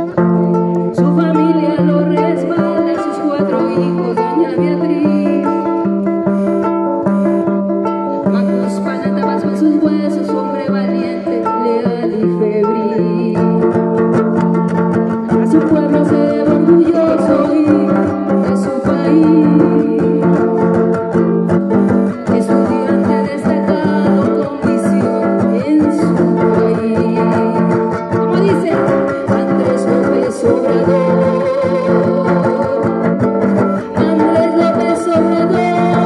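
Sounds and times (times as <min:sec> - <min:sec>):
guitar chords and plucked notes: 0:00.0 - 0:36.0.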